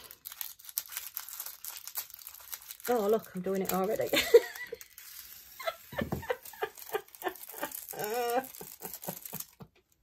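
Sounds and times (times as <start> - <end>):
small beads clicking and rattling: 0.0 - 10.0.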